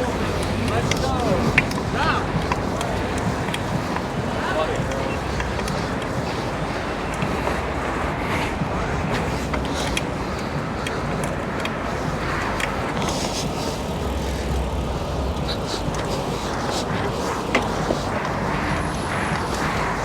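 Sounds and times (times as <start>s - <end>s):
dirt bike engine running: 0.0s - 20.0s
wind and road rush: 0.0s - 20.0s.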